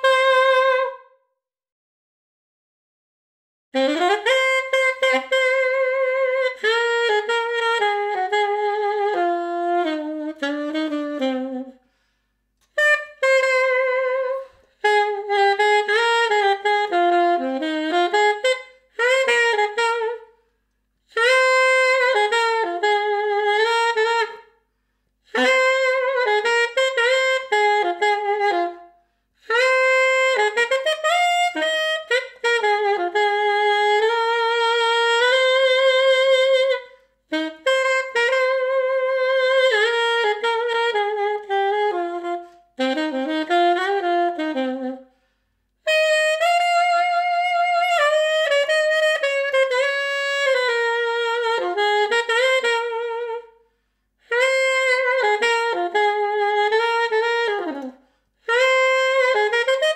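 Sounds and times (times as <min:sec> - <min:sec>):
saxophone playing jazz melody: 0:00.0 - 0:01.2, 0:03.8 - 0:59.9.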